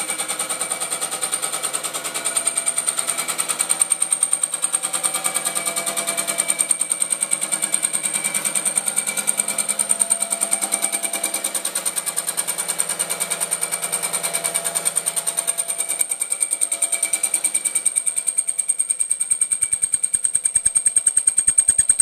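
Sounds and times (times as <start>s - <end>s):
milling machine running: 0.0s - 22.0s.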